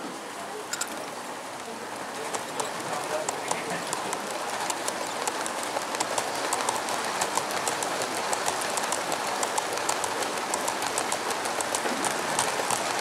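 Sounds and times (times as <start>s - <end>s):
steady background noise: 0.0s - 13.0s
model train wheels clicking over rail joints: 1.6s - 13.0s.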